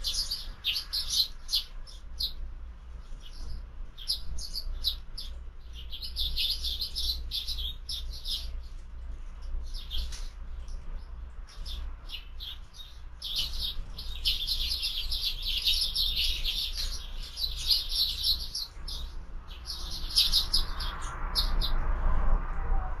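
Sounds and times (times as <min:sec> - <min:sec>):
sparrows chirping: 0:00.0 - 0:22.1
steady low hum: 0:00.0 - 0:23.0.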